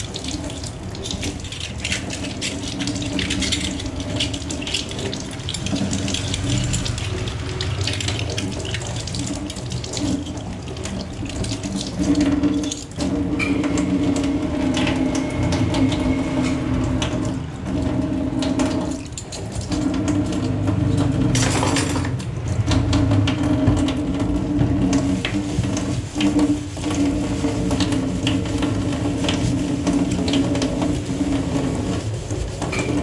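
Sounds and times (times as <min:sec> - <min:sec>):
tap water running into metal sink: 0:00.0 - 0:33.0.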